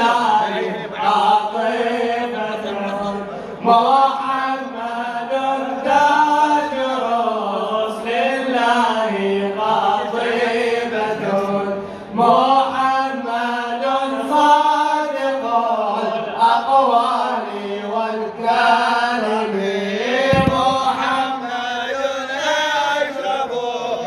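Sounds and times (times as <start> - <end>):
men chanting a hymn: 0.0 - 24.0.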